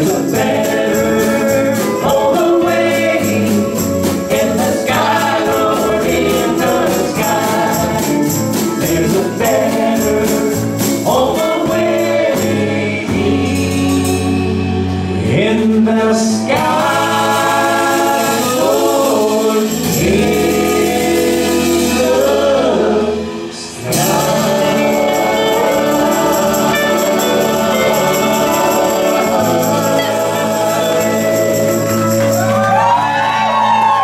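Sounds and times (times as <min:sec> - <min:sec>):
band of electric guitars and drums: 0:00.0 - 0:34.0
voices singing in harmony: 0:00.0 - 0:34.0.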